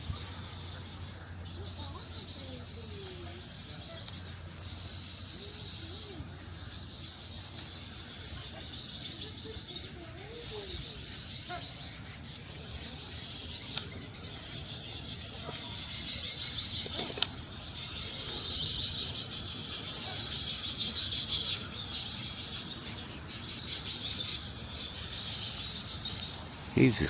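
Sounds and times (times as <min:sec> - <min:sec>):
insects trilling high: 0:00.0 - 0:27.0
lower insect chorus: 0:00.0 - 0:27.0.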